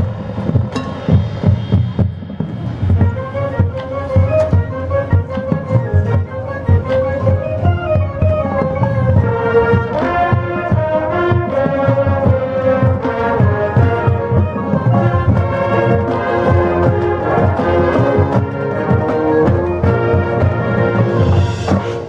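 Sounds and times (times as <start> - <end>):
drums and percussion: 0.0 - 22.0
marching band playing: 0.0 - 22.0
brass chords: 2.7 - 22.0.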